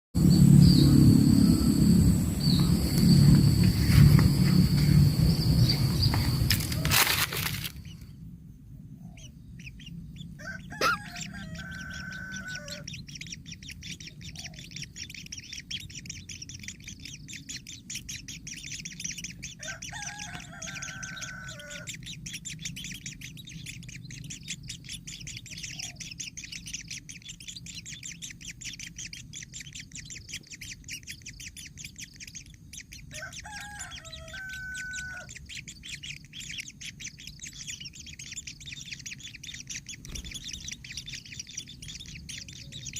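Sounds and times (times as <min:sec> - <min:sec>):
rapid high bird chatter: 0:00.2 - 0:08.1, 0:08.9 - 0:42.9
longer bird calls: 0:00.2 - 0:42.9.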